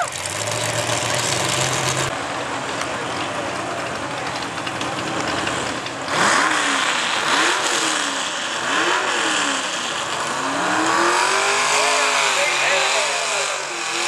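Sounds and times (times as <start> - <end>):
tractor engine idling and revving: 0.0 - 14.0.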